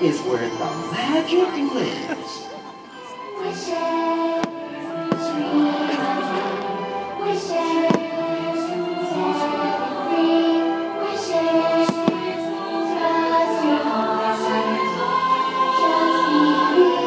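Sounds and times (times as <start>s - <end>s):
orchestral music with choir: 0.0s - 17.0s.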